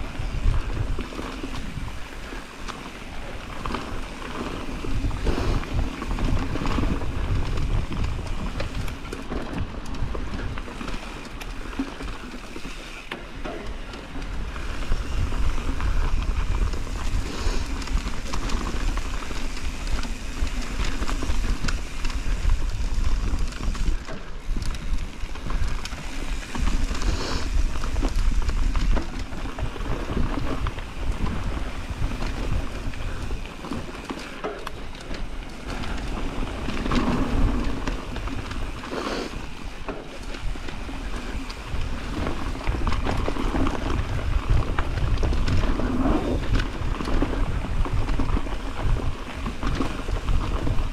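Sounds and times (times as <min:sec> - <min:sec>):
wind buffeting microphone: 0:00.0 - 0:11.7, 0:13.6 - 0:50.9
bike clattering and clicking: 0:00.0 - 0:50.9.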